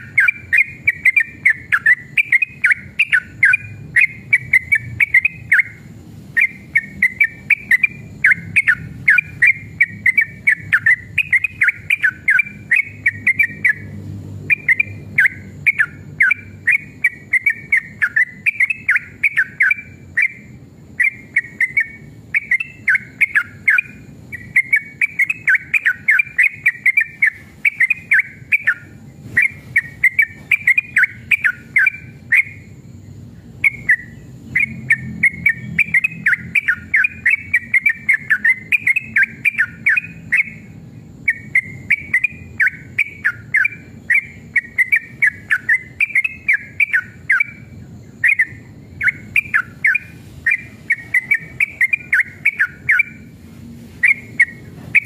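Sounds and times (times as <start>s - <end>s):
bird singing whistled chattering: 0.0s - 55.0s.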